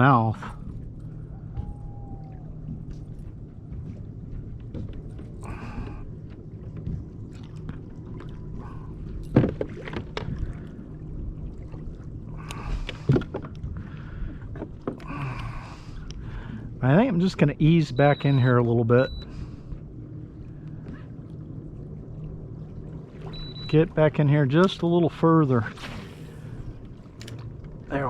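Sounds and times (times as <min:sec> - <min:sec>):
water sloshing against kayak hull: 0:00.0 - 0:28.0.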